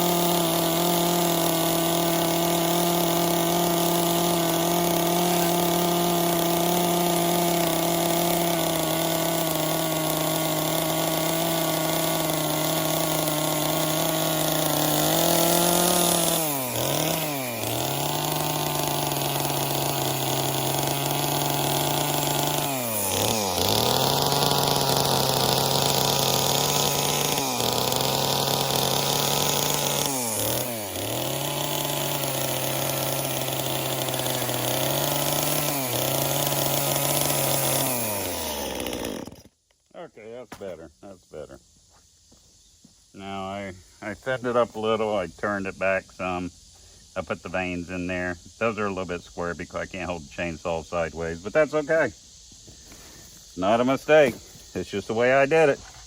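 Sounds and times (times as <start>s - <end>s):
chainsaw carving wood: 0.0s - 39.6s, 47.2s - 52.1s, 53.5s - 56.0s.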